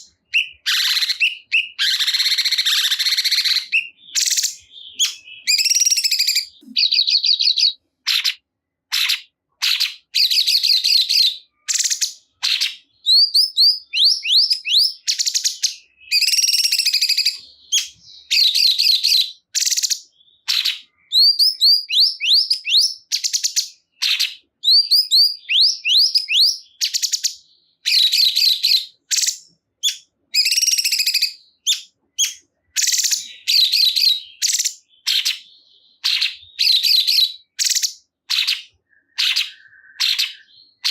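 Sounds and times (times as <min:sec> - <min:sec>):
songbird singing rapid chirps: 0:00.0 - 0:40.9.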